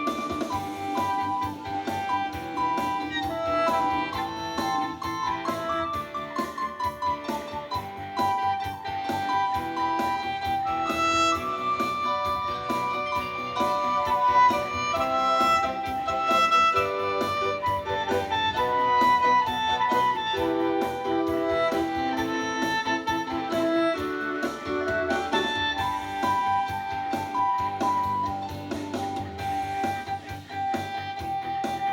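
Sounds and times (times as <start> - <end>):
small ensemble playing music: 0.0 - 31.9.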